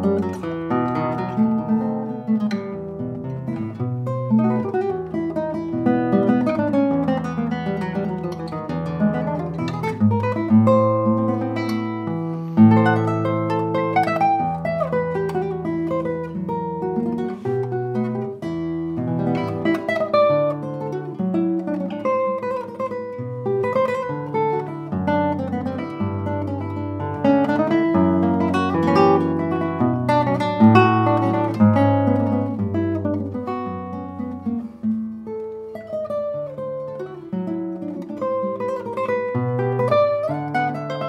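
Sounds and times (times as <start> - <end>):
fingerstyle classical guitar: 0.0 - 41.0.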